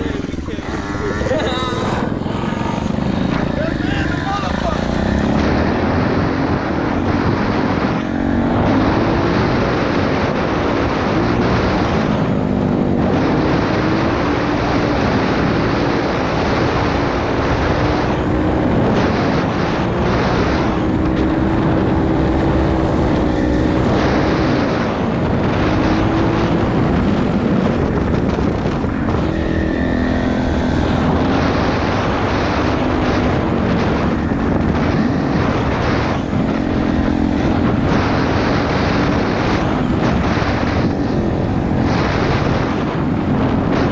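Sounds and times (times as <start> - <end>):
motorbike engine revving: 0.0 - 43.9
wind rushing over microphone: 0.0 - 43.9.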